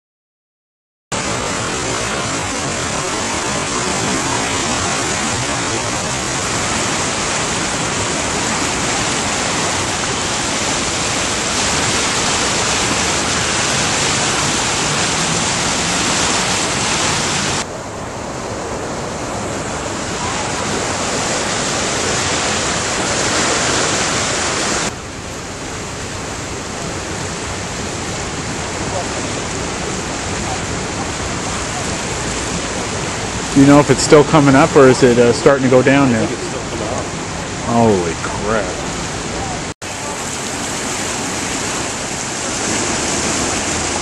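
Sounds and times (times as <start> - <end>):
rushing floodwater: 1.1 - 44.0.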